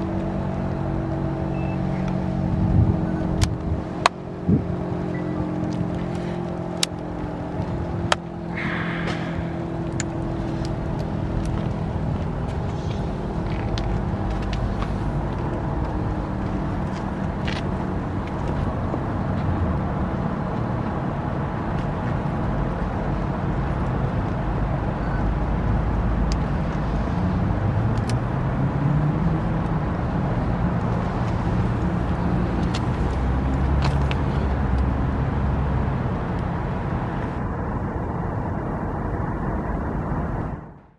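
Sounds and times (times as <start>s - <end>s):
warning siren deep rumble: 0.0s - 21.6s, 22.4s - 40.9s.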